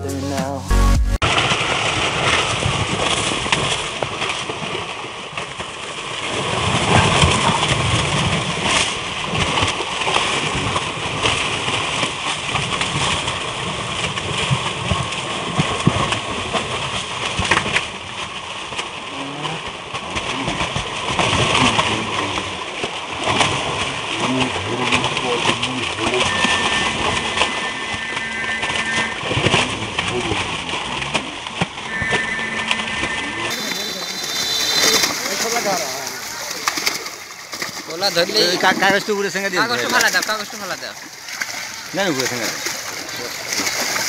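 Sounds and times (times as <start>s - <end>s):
fish thrashing and splashing: 1.2s - 44.0s.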